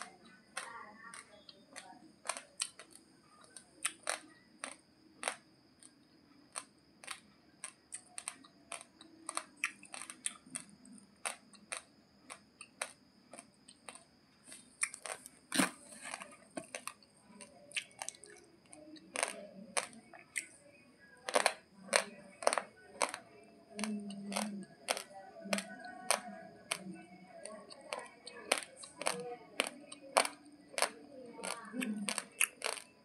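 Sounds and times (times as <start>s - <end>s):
chewing raw rice crunches: 0.0s - 20.6s, 21.3s - 33.0s.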